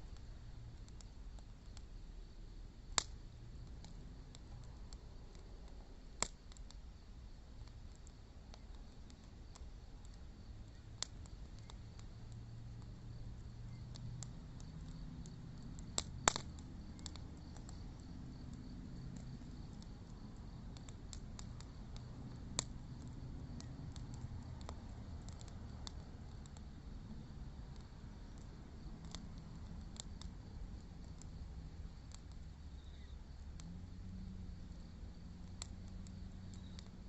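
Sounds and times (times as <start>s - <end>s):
burning wood popping: 0.0s - 2.0s, 2.8s - 37.0s
wood fire crackling: 0.0s - 37.0s.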